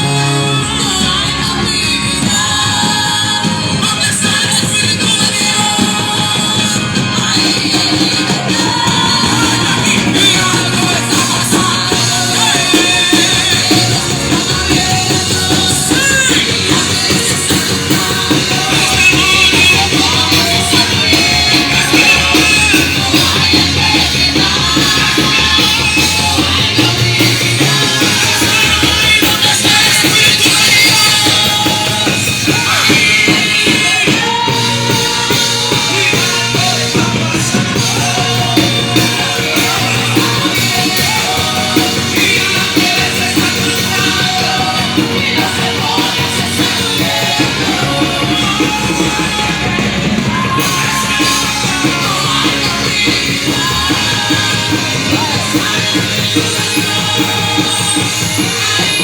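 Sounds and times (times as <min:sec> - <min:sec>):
drum kit beat: 0:00.0 - 0:59.0
live rock band playing: 0:00.0 - 0:59.0
people singing and calling out: 0:00.0 - 0:59.0.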